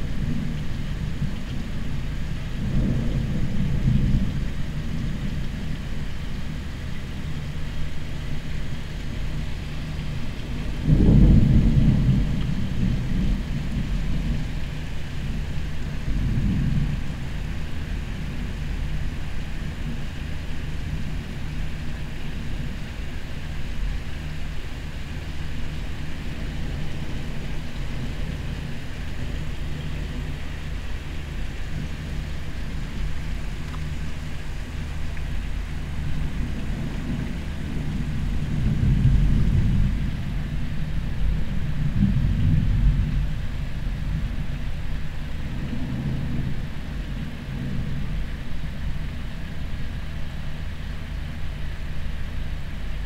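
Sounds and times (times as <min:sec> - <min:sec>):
thunder rumbling: 0:00.0 - 0:07.6, 0:09.1 - 0:49.2.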